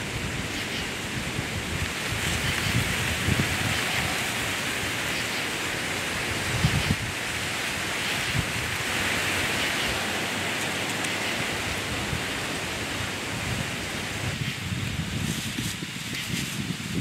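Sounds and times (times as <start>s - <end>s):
wind rustling through leaves: 0.0s - 17.0s.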